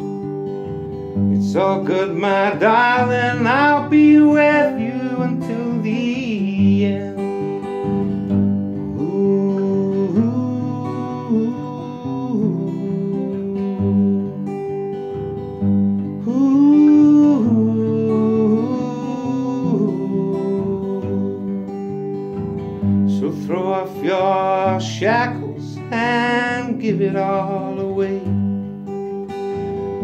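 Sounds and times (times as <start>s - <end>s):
acoustic guitar playing: 0.0s - 30.0s
person singing folk song: 0.0s - 30.0s.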